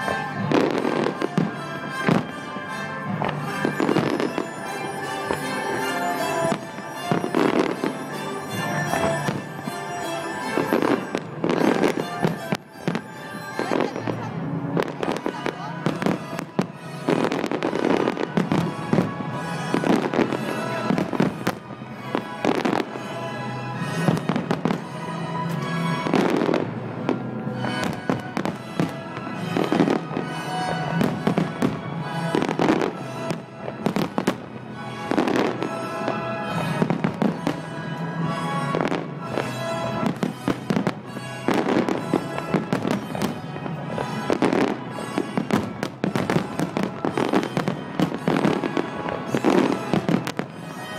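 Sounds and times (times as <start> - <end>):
fireworks bursting with bangs and crackles: 0.0 - 50.9
music: 0.0 - 50.9.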